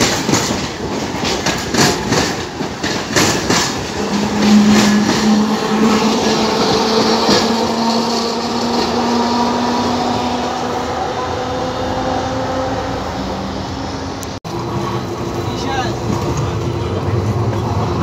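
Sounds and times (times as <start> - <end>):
tram electric motors humming: 0.0 - 18.0.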